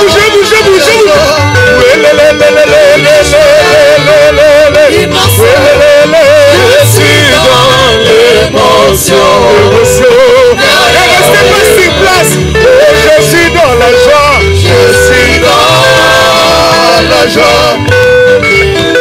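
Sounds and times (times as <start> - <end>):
bass guitar: 0.0 - 19.0
electric guitar: 0.0 - 19.0
keyboard: 0.0 - 19.0
voices singing gospel song: 1.2 - 18.2.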